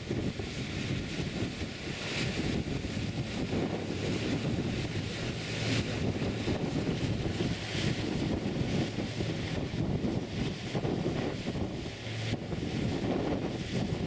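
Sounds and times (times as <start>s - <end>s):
low rumble: 0.0s - 14.0s
propeller wash rushing water: 0.0s - 14.0s
wind buffeting microphone: 0.0s - 14.0s.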